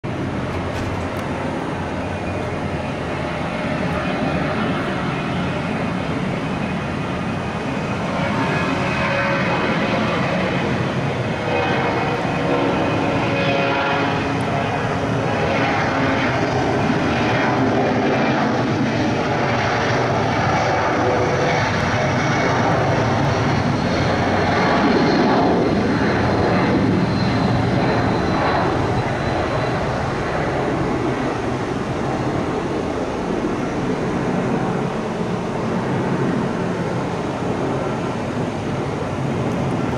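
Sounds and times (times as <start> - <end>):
jet engines at takeoff: 0.0 - 39.9.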